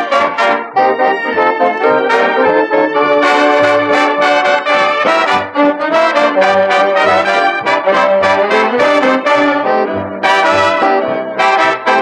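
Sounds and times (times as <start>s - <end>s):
brass band music: 0.0s - 12.0s.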